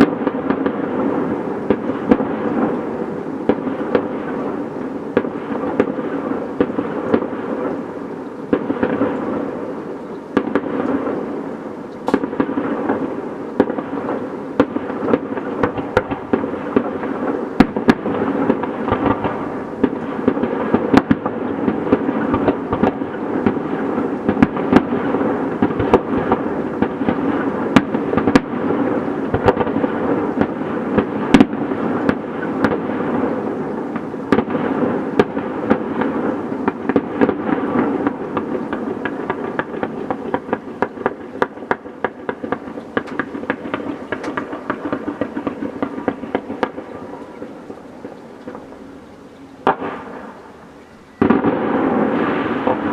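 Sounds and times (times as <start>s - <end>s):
fireworks bangs: 0.0s - 52.9s
fireworks crackling and rumbling: 0.0s - 52.9s.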